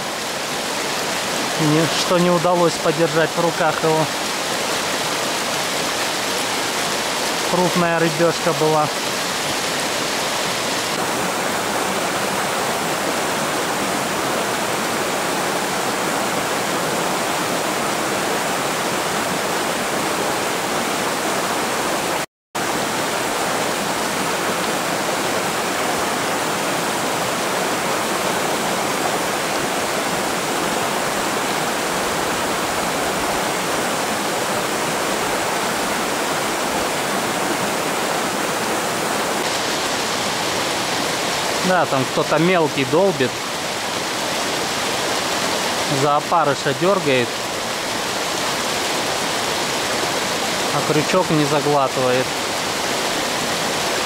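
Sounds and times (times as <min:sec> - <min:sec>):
mountain river rushing: 0:00.0 - 0:54.0.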